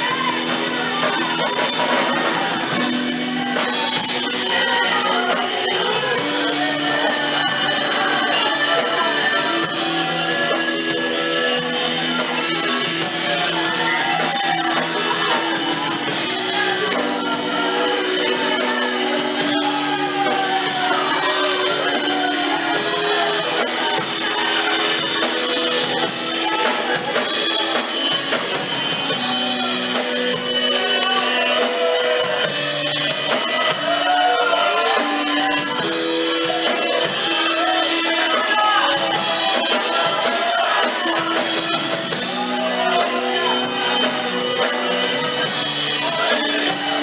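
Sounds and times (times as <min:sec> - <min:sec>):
band playing worship song: 0:00.0 - 0:47.0
drum kit steady beat: 0:00.0 - 0:47.0
guitar: 0:00.0 - 0:47.0
person singing: 0:00.0 - 0:47.0.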